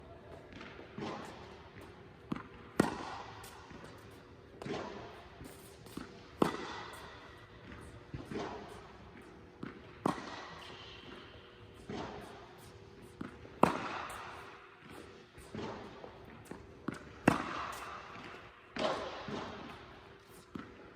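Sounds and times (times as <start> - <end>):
racket hitting tennis ball: 0.3 - 20.9.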